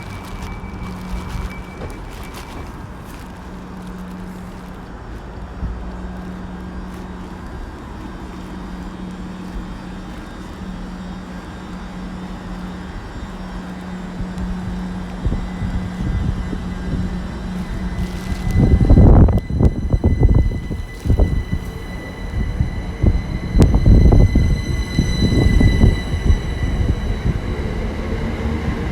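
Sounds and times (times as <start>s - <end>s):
electric train hum: 0.0s - 28.9s
train running rumble: 0.0s - 28.9s.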